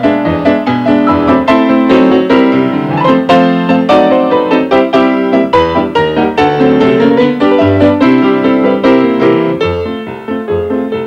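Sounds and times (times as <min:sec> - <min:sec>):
brisk piano music: 0:00.0 - 0:11.0.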